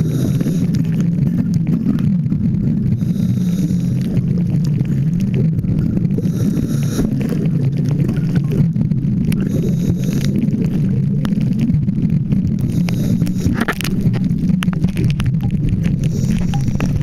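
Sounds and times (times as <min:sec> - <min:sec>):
clicks and crackles: 0:00.0 - 0:17.0
underwater low rumble: 0:00.0 - 0:17.0.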